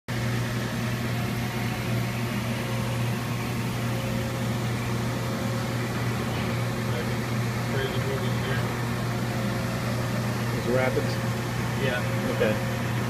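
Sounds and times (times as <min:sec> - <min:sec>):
low machine hum: 0:00.1 - 0:13.0.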